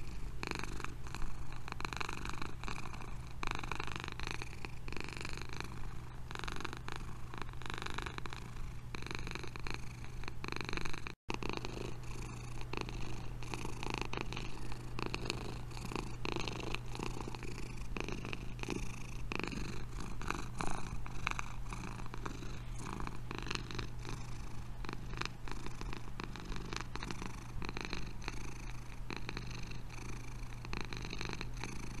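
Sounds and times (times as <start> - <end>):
cat purring: 0.0 - 32.0.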